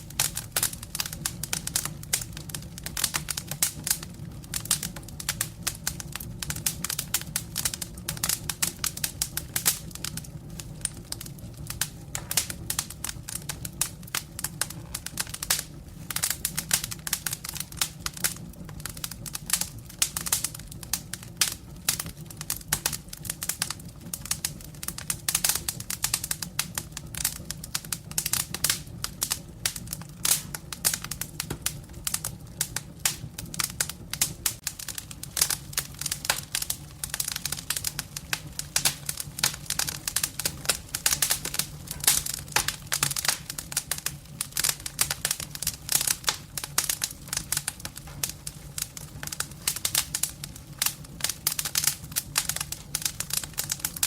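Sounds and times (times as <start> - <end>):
firewood crackling and popping: 0.0 - 54.0
low fire rumble: 0.0 - 54.0.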